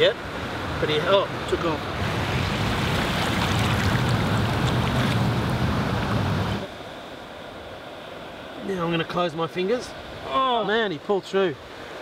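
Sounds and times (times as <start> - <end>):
surf washing over sand: 0.0 - 12.0.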